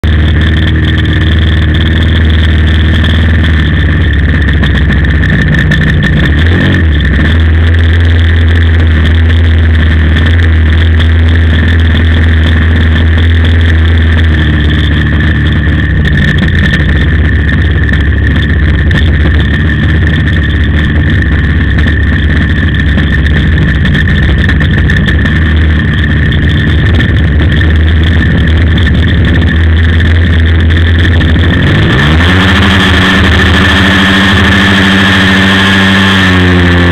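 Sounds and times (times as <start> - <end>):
model plane engine running: 0.0 - 36.9.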